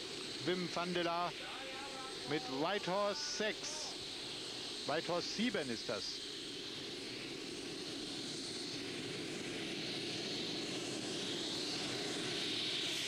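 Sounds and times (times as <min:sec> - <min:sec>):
turbine engines rushing and whining: 0:00.0 - 0:13.0.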